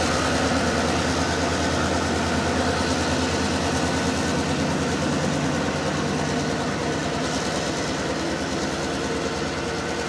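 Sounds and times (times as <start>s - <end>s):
diesel locomotive engine throbbing: 0.0s - 10.0s.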